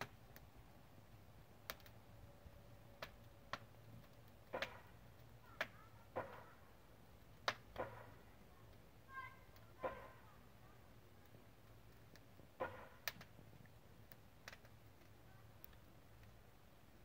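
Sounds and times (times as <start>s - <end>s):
fire crackling and popping: 0.0s - 17.0s
faint low hum: 0.2s - 17.0s.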